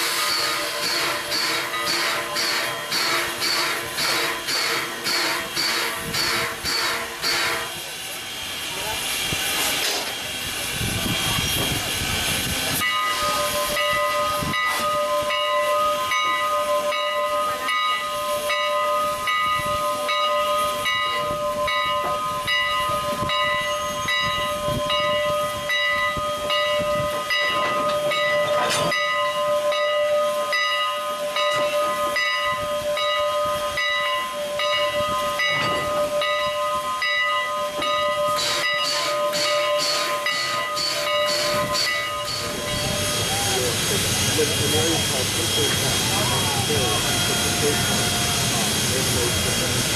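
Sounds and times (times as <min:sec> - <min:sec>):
steam hissing: 0:00.0 - 0:49.9
steam locomotive exhaust chuffs: 0:00.0 - 0:49.9.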